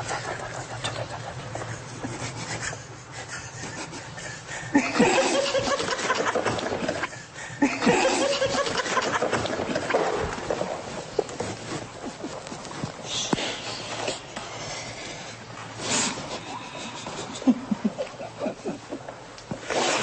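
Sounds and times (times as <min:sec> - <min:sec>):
people snickering: 0:00.0 - 0:13.0, 0:15.9 - 0:19.2.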